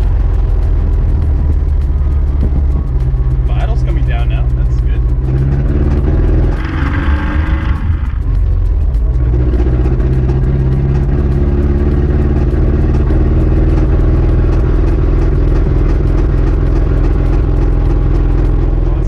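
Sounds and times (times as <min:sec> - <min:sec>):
car engine running while driving: 0:00.0 - 0:19.0.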